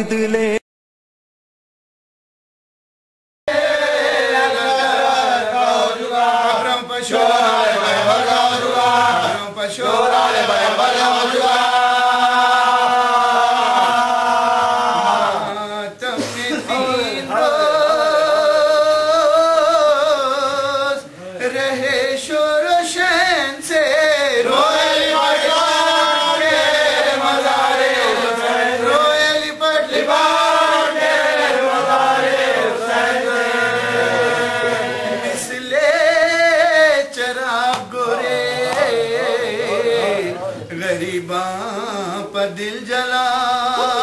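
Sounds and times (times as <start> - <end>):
man chanting: 0.0 - 0.6, 4.2 - 30.1, 33.6 - 44.0.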